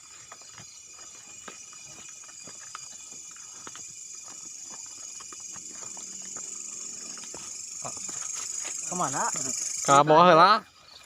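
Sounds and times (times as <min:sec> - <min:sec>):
footsteps on forest floor: 0:00.0 - 0:11.0
night insect chorus: 0:00.0 - 0:11.0.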